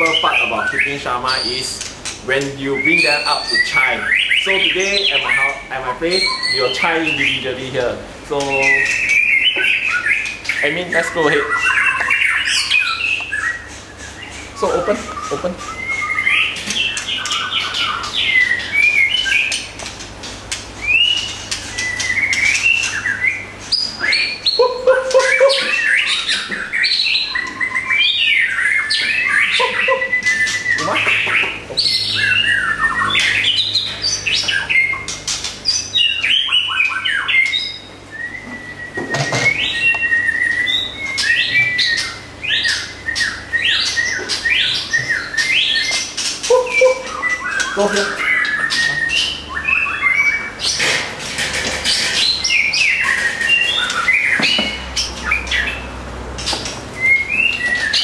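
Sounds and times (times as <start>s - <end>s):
birds singing whistled phrases: 0.0s - 58.0s.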